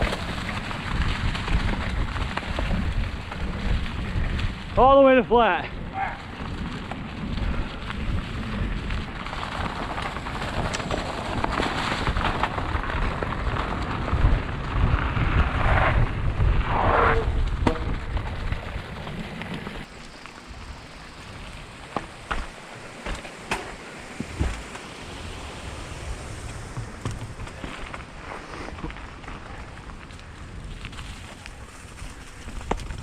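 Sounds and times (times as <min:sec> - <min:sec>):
bike rattling: 0:00.0 - 0:33.0
tyres rolling over dirt: 0:00.0 - 0:33.0
wind buffeting microphone: 0:00.0 - 0:33.0.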